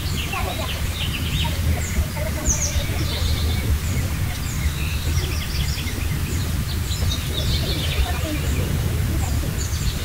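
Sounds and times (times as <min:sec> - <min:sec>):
birds chirping: 0:00.0 - 0:10.0
funicular car rumbling: 0:00.0 - 0:10.0.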